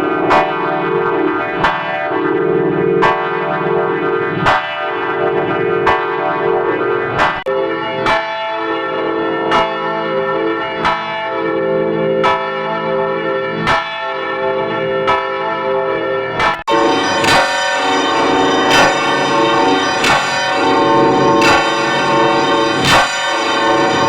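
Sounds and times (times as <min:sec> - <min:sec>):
church bells ringing: 0:00.0 - 0:24.0.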